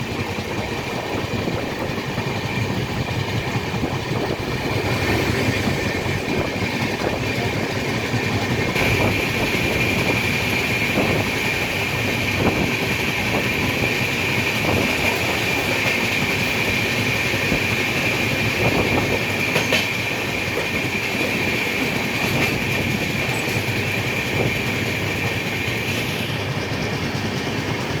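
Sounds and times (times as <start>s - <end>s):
clicks of train wheels: 0.0s - 28.0s
train wheels rumbling on rails: 0.0s - 28.0s.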